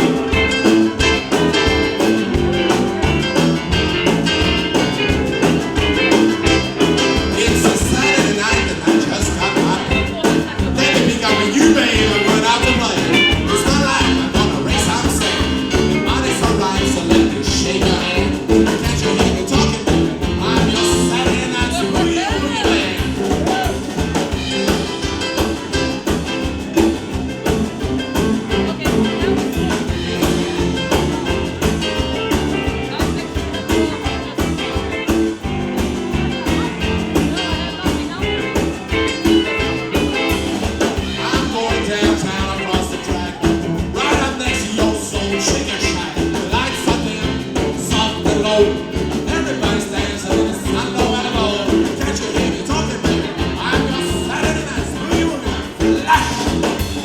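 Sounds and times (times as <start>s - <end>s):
drums driving beat: 0.0s - 57.0s
rock and roll band playing: 0.0s - 57.0s.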